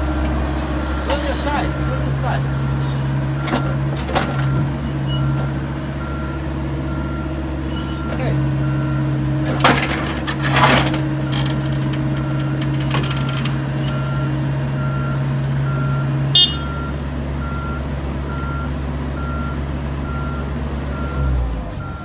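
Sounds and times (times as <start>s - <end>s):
heavy diesel engines running: 0.0s - 22.0s
reversing alarm beeping: 1.4s - 9.4s, 12.2s - 22.0s.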